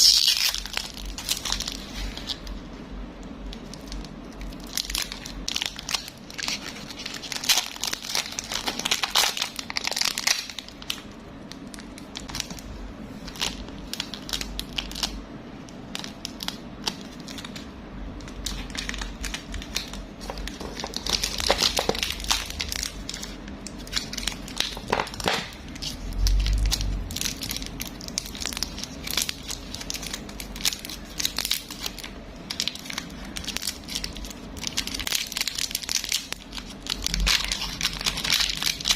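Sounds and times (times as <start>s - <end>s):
plastic packaging crinkling and tearing: 0.0s - 2.6s, 3.4s - 38.9s.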